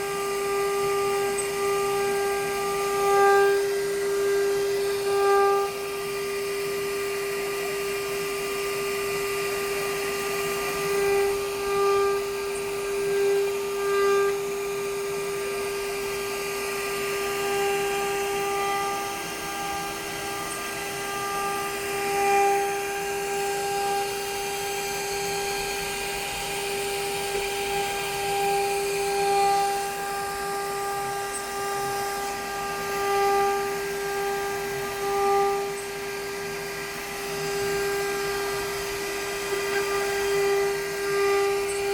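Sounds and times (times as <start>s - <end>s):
machine spindle whine: 0.0s - 41.9s.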